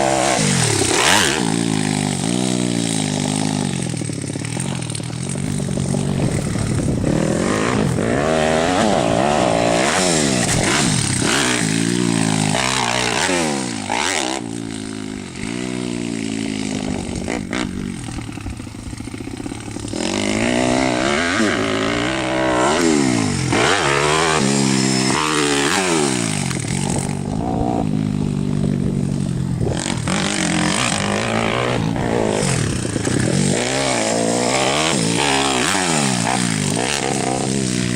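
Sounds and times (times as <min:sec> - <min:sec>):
small motorbike engine revving: 0:00.0 - 0:37.9.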